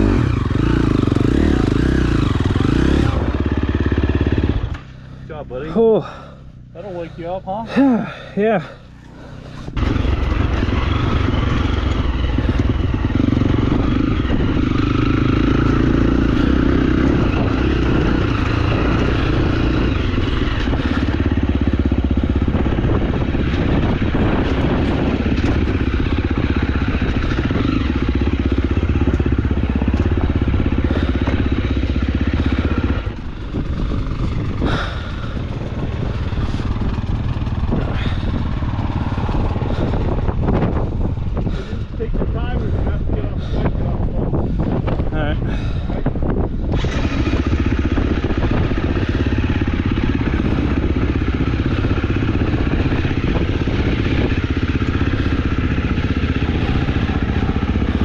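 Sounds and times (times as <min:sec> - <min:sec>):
dirt bike engine under throttle: 0:00.0 - 0:58.0.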